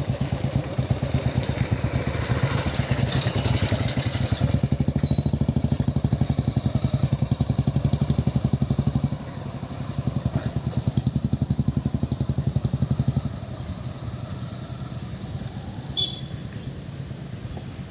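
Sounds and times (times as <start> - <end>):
diesel locomotive engine chugging: 0.0 - 17.9.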